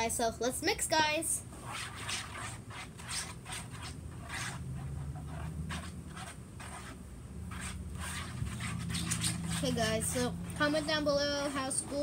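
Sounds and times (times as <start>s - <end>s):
low steady hum: 0.0s - 12.0s
stirrer scraping container: 1.5s - 12.0s.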